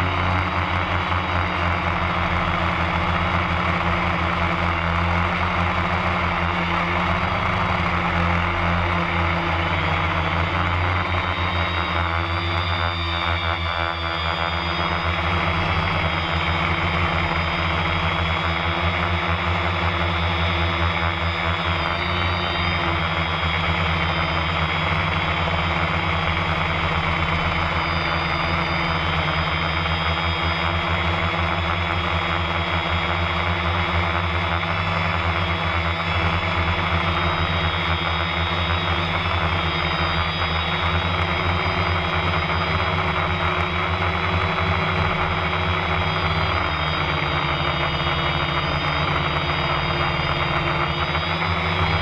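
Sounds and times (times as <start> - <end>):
drone motors humming and whining: 0.0 - 52.0.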